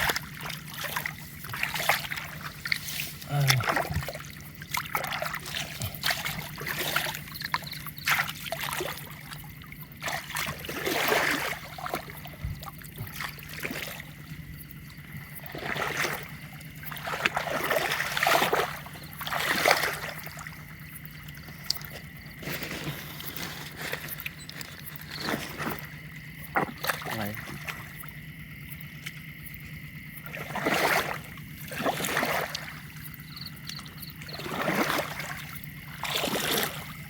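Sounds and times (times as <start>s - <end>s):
water splashing and sloshing: 0.0s - 37.0s.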